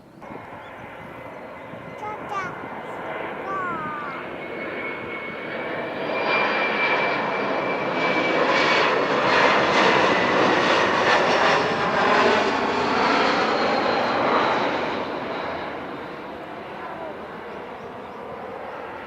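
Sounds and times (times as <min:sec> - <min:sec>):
airliner engines roaring overhead: 0:00.0 - 0:19.0.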